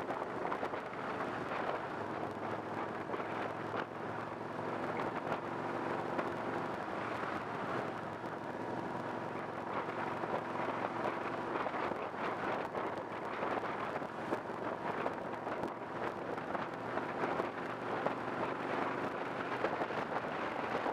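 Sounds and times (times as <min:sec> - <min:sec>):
tyre and road noise: 0:00.0 - 0:20.9
vehicle engine hum: 0:00.0 - 0:20.9.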